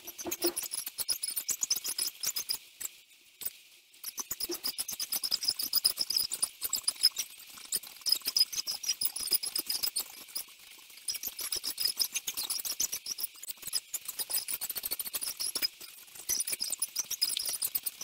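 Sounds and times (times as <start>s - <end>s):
sped-up squeaky chirps and clicks: 0.0s - 18.0s.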